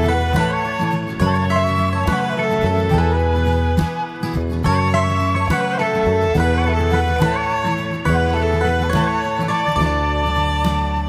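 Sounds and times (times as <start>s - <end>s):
upbeat plucked string music: 0.0s - 11.0s.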